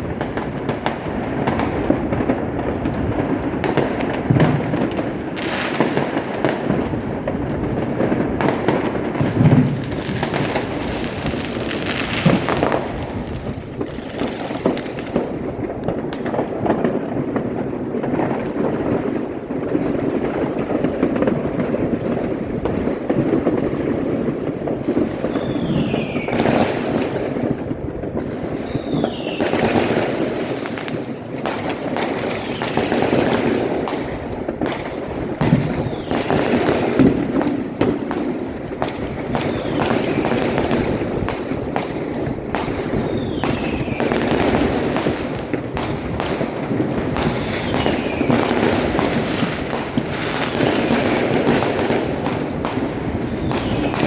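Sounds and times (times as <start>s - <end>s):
crackling firecrackers: 0.0s - 54.0s
fireworks bangs: 0.0s - 54.0s
whistling fireworks: 0.0s - 54.0s.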